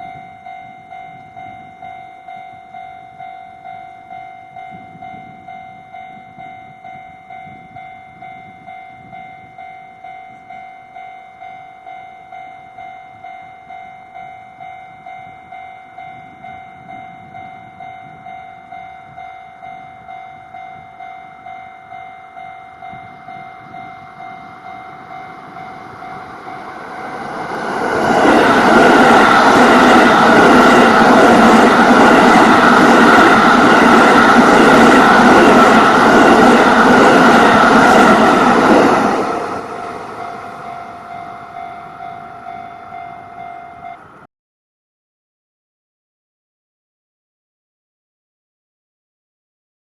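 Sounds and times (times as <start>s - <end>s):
electric locomotive and train passing: 0.0s - 44.3s
level-crossing warning bell ringing: 0.0s - 44.3s.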